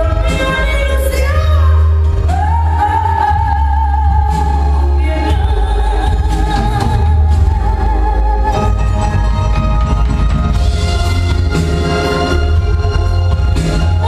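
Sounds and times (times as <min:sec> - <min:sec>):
song with heavy bass: 0:00.0 - 0:14.0.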